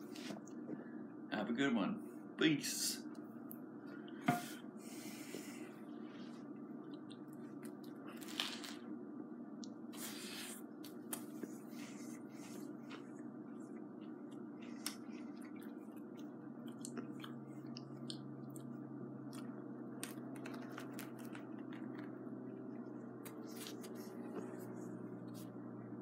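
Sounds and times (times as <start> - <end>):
steady low hum: 0.0 - 26.0
person chewing bread: 4.9 - 25.8.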